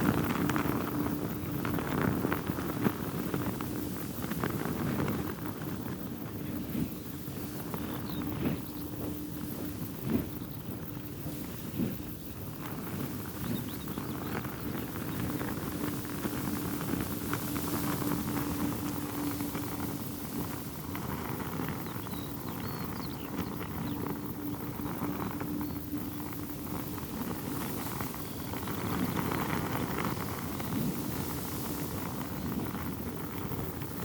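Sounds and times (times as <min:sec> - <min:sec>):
fabric flapping in wind: 0:00.0 - 0:34.0
wind buffeting microphone: 0:00.0 - 0:34.0.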